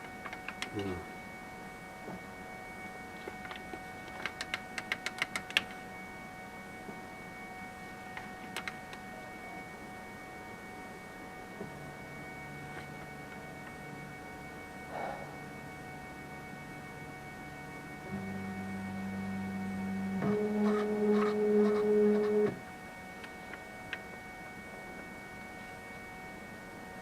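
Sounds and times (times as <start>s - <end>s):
printer motors humming: 0.0s - 27.0s.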